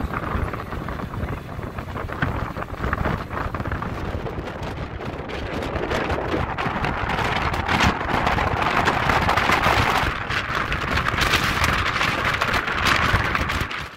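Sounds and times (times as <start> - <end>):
boat running noise: 0.0 - 13.9
wind buffeting microphone: 0.0 - 13.9.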